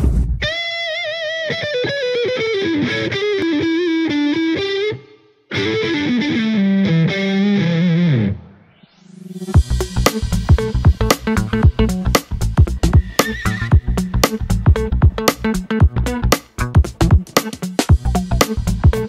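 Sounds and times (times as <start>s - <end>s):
distorted electric guitar lead: 0.4s - 19.0s.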